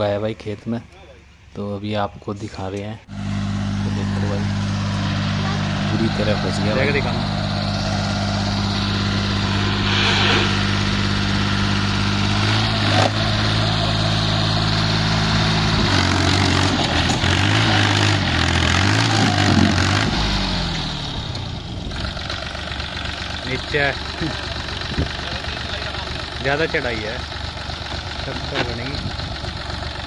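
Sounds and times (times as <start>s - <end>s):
tractor engine under load: 2.4s - 30.0s.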